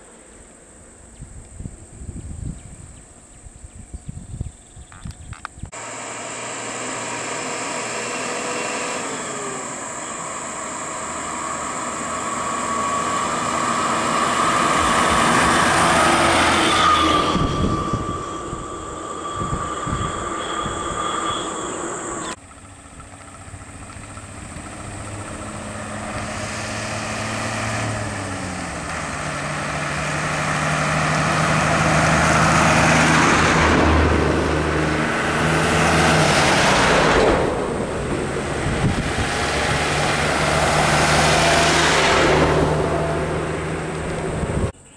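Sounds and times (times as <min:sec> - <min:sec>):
diesel bus engines passing: 0:05.6 - 0:44.9.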